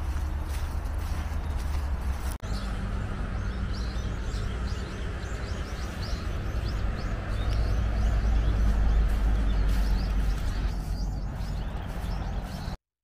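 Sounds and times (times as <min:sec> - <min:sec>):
low background rumble: 0:00.0 - 0:12.8
small birds chirping: 0:00.0 - 0:12.8.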